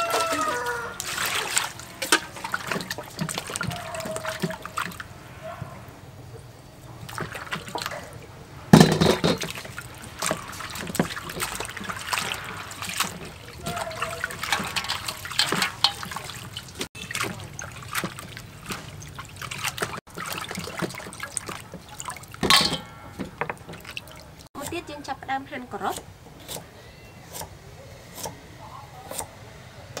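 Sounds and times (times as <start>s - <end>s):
water splashing in a steel basin: 0.0s - 24.7s.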